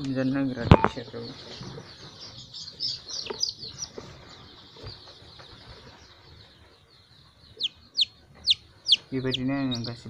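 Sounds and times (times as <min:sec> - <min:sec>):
chicks cheeping: 0:00.0 - 0:10.0.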